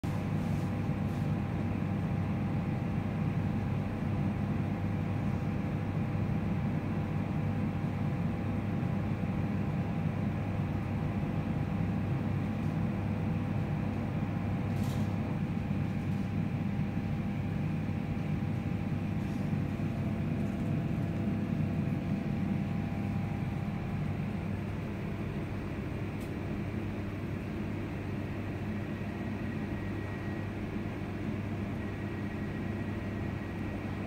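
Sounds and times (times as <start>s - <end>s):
faint steady whines: 0.1s - 34.0s.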